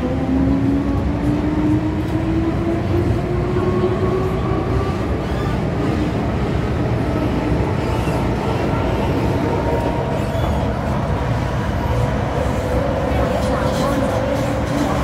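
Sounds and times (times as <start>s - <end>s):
metro train rumbling in tunnel: 0.0s - 15.0s.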